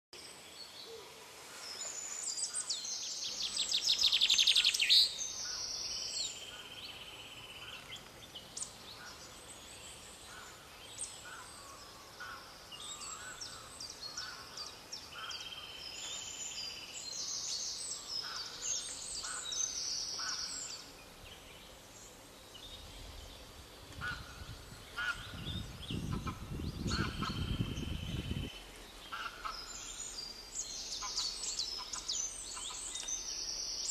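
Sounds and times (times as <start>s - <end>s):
birds calling: 1.9s - 33.9s.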